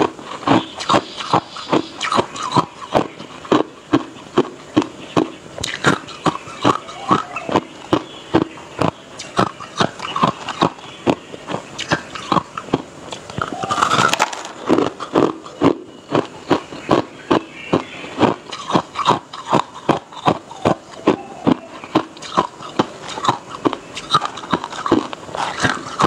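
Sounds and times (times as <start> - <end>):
ice crunching between teeth: 0.0 - 26.0.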